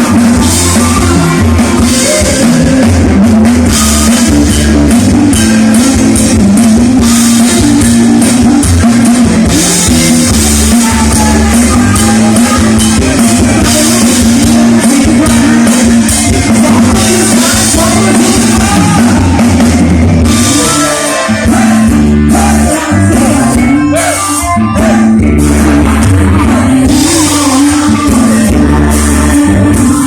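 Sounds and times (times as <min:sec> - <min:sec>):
band playing loud music: 0:00.0 - 0:30.0
person singing: 0:00.0 - 0:30.0.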